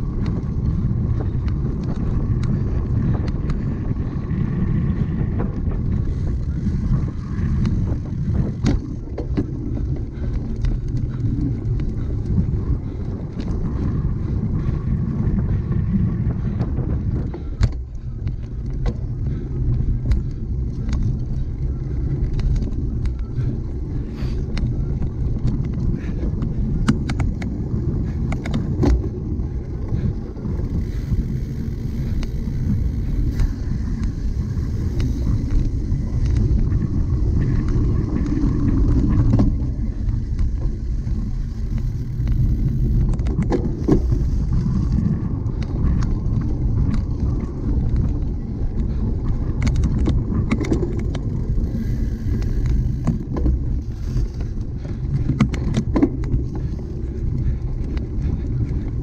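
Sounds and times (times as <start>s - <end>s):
bike rattling over bumps: 0.0s - 59.0s
bike tyres rumbling on ground: 0.0s - 59.0s.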